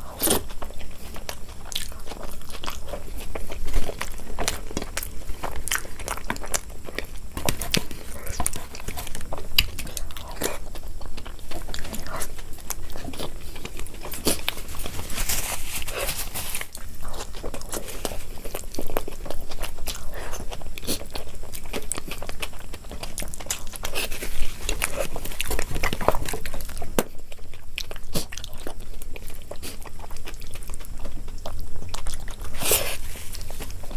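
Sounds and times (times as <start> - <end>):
crunchy chewing and mouth sounds: 0.0 - 33.9.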